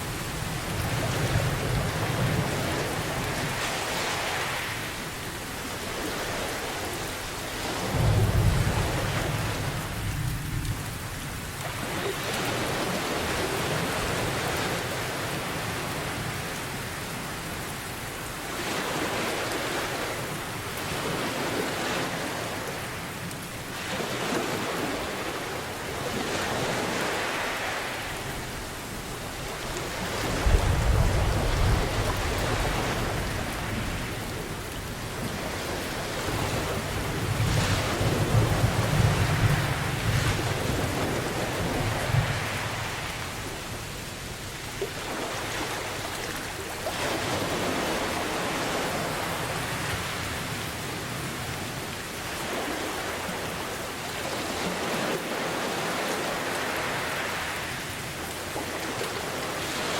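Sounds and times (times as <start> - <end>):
ocean waves washing: 0.0 - 59.9
steady rain: 0.0 - 59.9.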